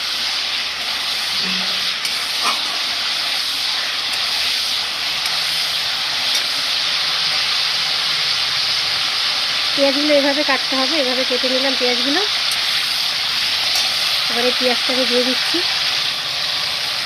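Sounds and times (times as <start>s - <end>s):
spices sizzling in hot oil: 0.0s - 17.0s.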